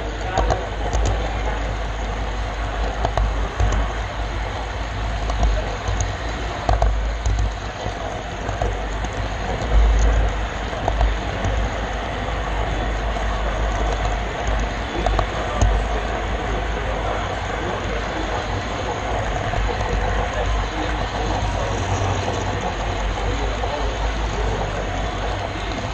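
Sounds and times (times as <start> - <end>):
faint track clicks: 0.0 - 25.9
model train rolling rumble: 0.0 - 25.9.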